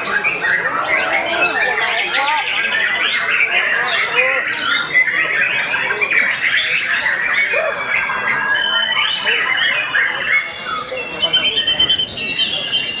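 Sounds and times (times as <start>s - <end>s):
chorus of songbirds singing: 0.0s - 13.0s.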